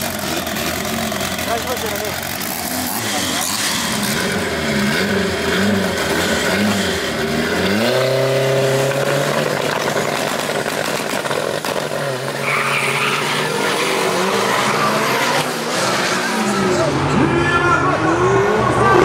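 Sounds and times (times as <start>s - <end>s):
cars launching and pulling away: 0.0s - 19.0s
drag racing car engines revving: 0.0s - 19.0s.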